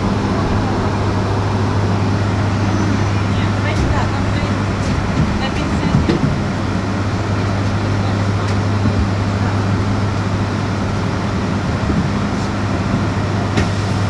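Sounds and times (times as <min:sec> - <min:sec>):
constant low hum: 0:00.0 - 0:14.0
road and tyre noise: 0:00.0 - 0:14.0.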